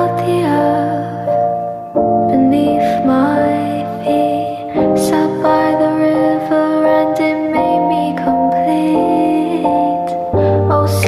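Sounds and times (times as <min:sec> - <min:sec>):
gentle lullaby-like melody: 0:00.0 - 0:11.0.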